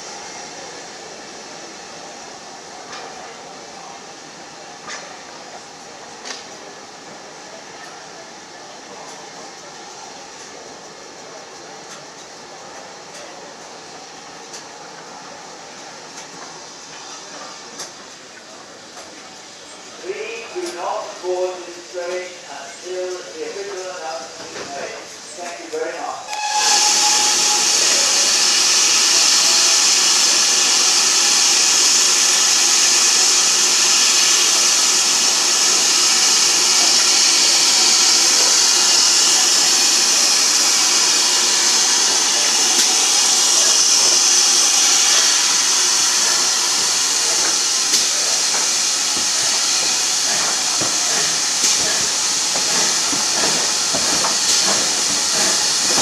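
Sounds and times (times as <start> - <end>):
steam hissing: 0.0 - 25.4, 26.0 - 56.0.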